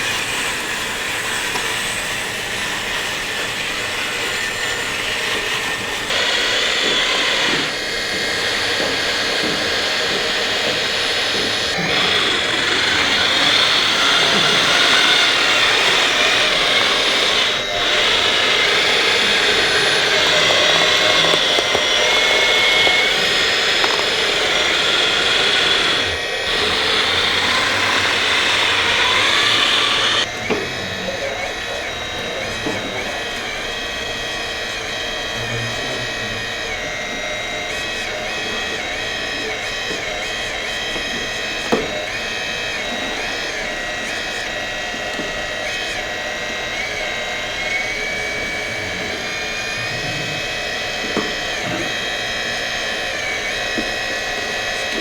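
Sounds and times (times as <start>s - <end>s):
high-pitched electric motor whine: 0.0s - 55.0s.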